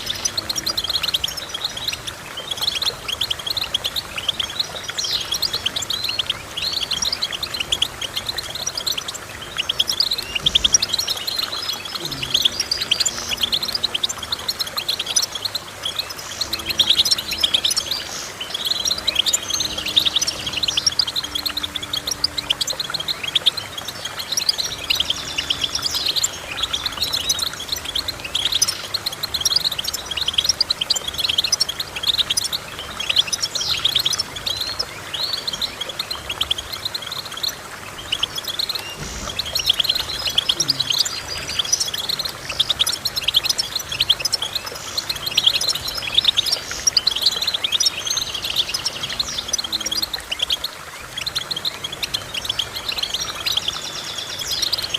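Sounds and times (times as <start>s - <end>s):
finch twittering: 0.0s - 54.9s.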